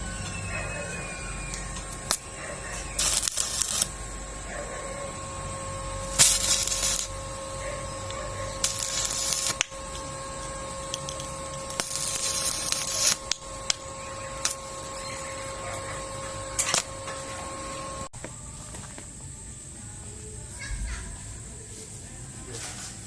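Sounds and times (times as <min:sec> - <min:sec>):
electrical whine: 0:00.0 - 0:23.0
crackling arc hiss: 0:00.8 - 0:23.0.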